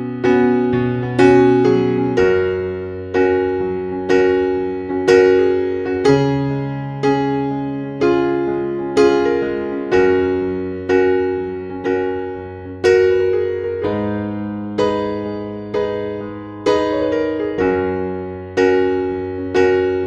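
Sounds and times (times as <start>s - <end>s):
slow keyboard chords: 0.0s - 20.0s.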